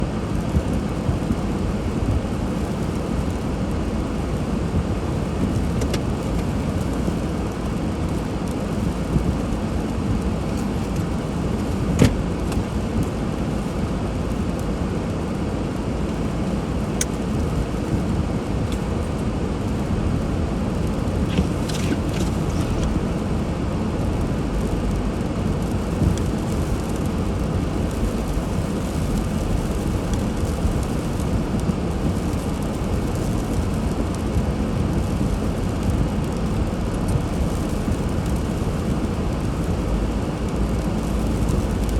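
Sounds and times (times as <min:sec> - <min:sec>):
car engine and tyre noise: 0:00.0 - 0:41.9.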